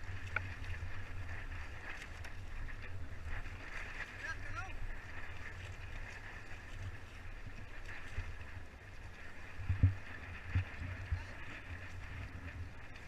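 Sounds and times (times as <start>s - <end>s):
water washing along hull: 0.0s - 13.0s.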